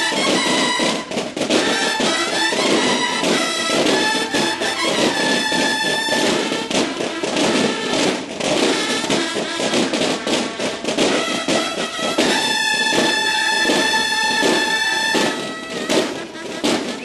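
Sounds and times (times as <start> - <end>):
bugles: 0.0 - 17.0
military drums playing fast: 0.0 - 17.0.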